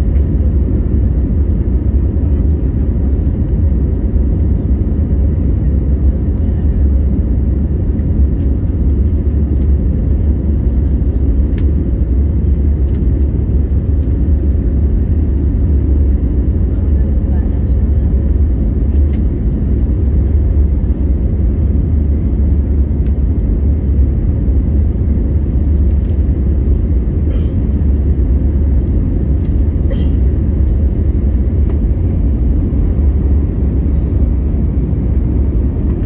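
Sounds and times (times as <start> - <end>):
jet engines rumbling in cabin: 0.0 - 36.0.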